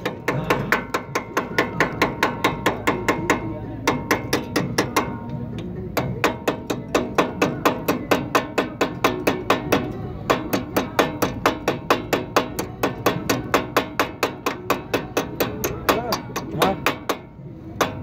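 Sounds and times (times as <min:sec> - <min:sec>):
rapid metallic tapping: 0:00.0 - 0:18.0.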